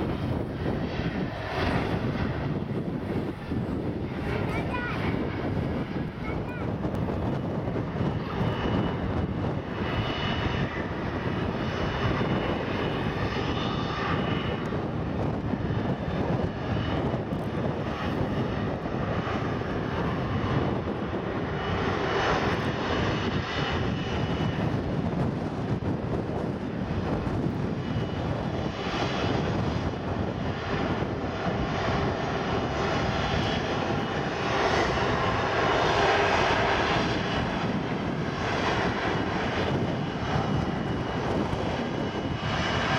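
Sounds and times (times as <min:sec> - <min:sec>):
jet engine rumble with whine: 0:00.0 - 0:42.9.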